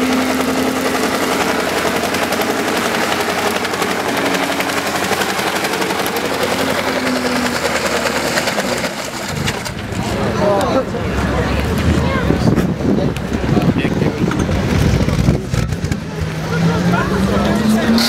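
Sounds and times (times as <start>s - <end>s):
car engine at high revs: 0.0s - 18.0s
engine crackling staccato: 0.0s - 18.0s.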